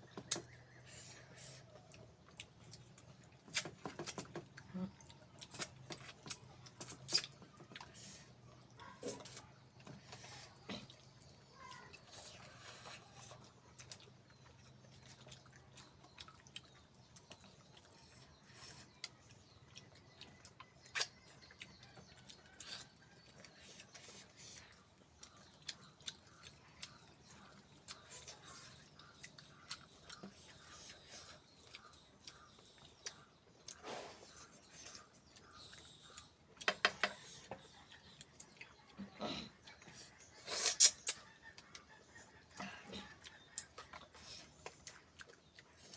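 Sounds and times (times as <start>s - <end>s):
close chewing and mouth sounds: 0.0s - 45.9s.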